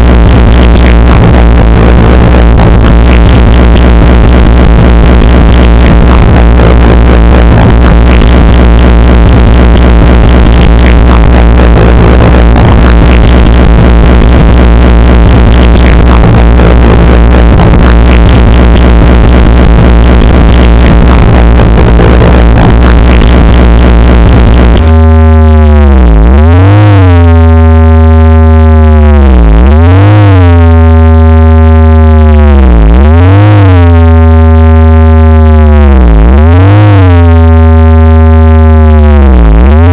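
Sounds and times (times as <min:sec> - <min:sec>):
buzzy tone swooping in pitch: 0:00.0 - 0:39.9
harsh synthesized drone: 0:00.0 - 0:39.9
low hums: 0:00.0 - 0:39.9.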